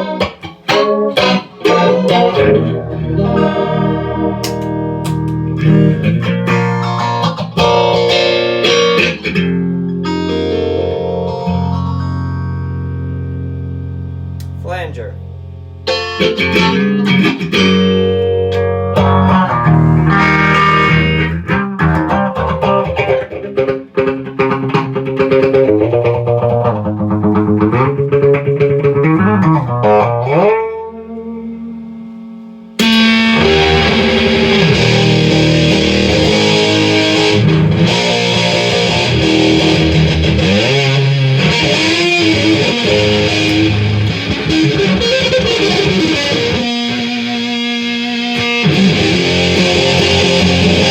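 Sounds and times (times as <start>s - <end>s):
electric guitar with flanger: 0.0s - 14.6s, 15.8s - 50.9s.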